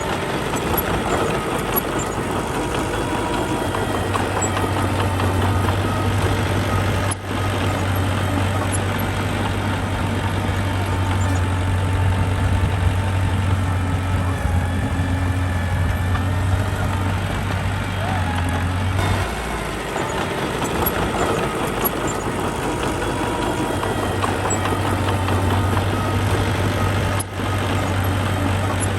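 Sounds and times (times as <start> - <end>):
construction machine engine humming: 0.0 - 28.9.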